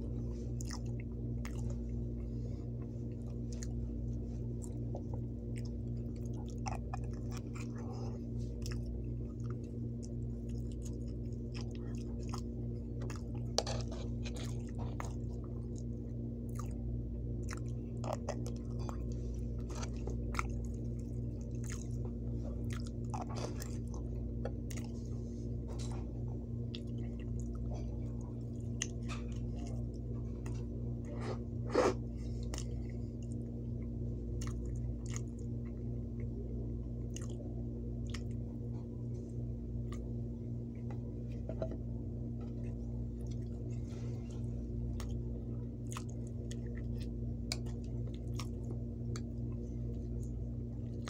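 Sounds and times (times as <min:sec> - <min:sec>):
chewing soft food: 0:00.0 - 0:51.0
steady low hum: 0:00.0 - 0:51.0.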